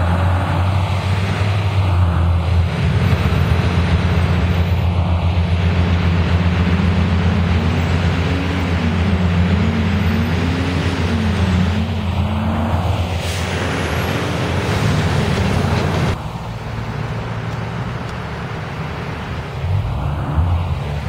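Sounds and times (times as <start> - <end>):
bus diesel engine running: 0.0 - 21.0
passing vehicles: 0.0 - 21.0
street traffic: 0.0 - 21.0.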